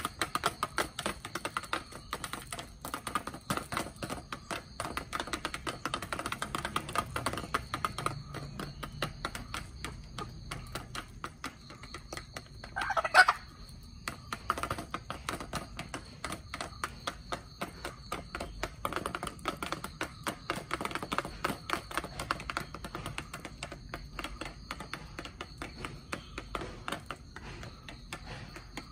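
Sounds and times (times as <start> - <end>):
chickens pecking feed: 0.0 - 28.9.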